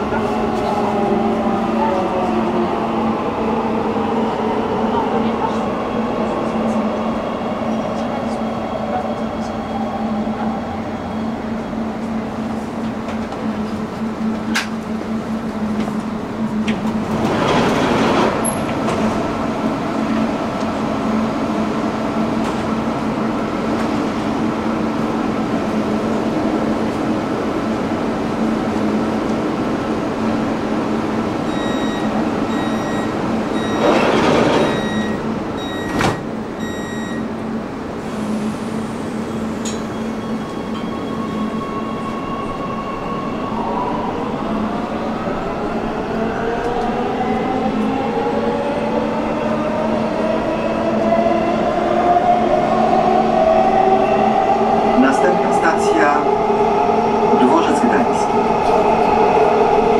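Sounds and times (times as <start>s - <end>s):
train rushing: 0.0s - 36.8s, 37.5s - 59.9s
metro train rumbling in tunnel: 0.0s - 59.9s.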